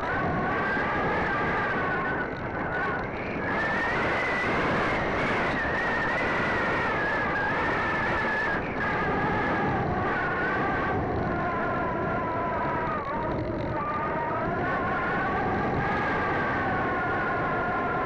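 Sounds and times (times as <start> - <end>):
wind rush: 0.0 - 18.0.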